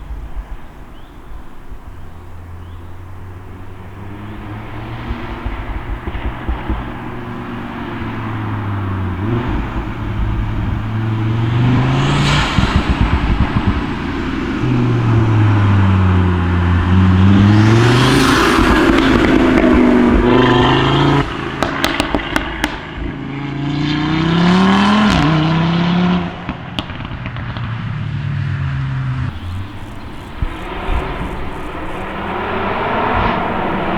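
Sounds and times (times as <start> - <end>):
exhaust crackling pops and bangs: 0.0 - 23.5, 24.8 - 28.4, 29.2 - 33.9
car engine revving hard: 2.6 - 27.8, 28.7 - 33.9.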